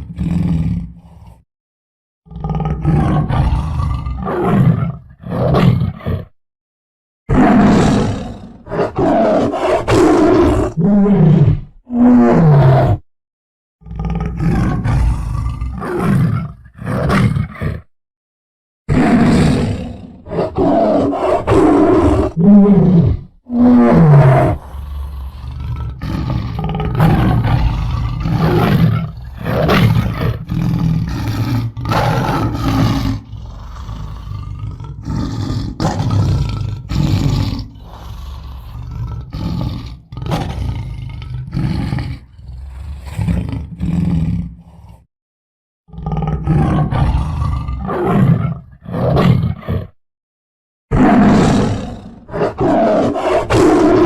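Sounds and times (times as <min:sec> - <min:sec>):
tiger roaring and growling: 0:00.0 - 0:01.4, 0:02.3 - 0:06.4, 0:07.3 - 0:13.0, 0:13.8 - 0:17.9, 0:18.9 - 0:45.1, 0:45.9 - 0:50.0, 0:50.9 - 0:54.0.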